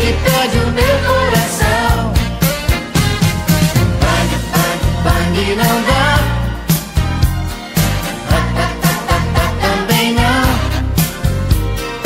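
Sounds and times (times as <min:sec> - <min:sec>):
romantic pop song: 0:00.0 - 0:12.0.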